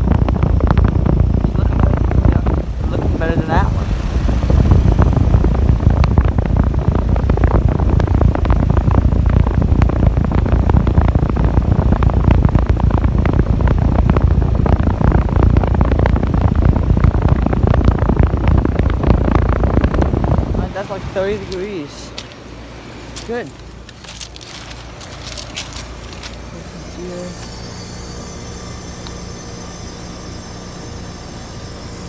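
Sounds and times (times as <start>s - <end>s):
heat pump fan and compressor rumbling: 0.0s - 32.0s.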